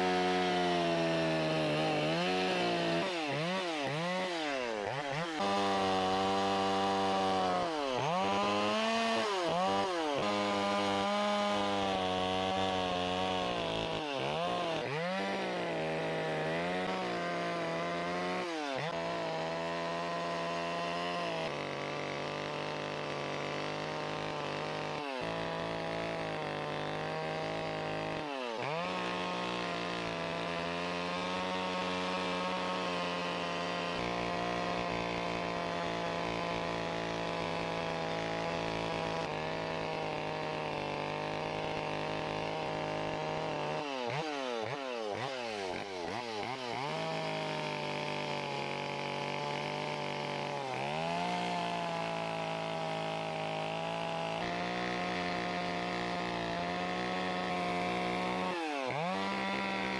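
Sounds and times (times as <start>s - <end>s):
chainsaw carving wood: 0.0s - 59.9s.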